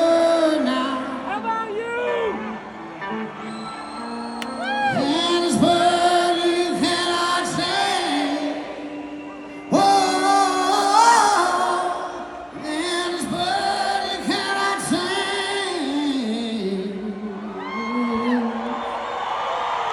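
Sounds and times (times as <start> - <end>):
live band with singing: 0.0 - 19.5.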